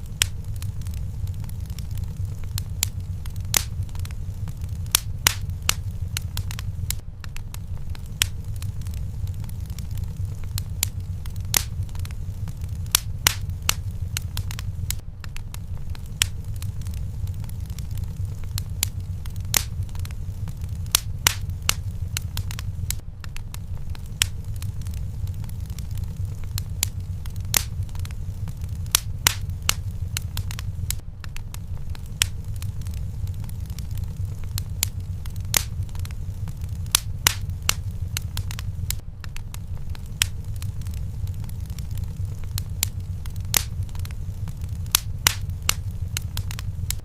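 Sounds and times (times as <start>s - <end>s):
flames rumbling: 0.0s - 47.0s
wood fire crackling and popping: 0.0s - 47.0s.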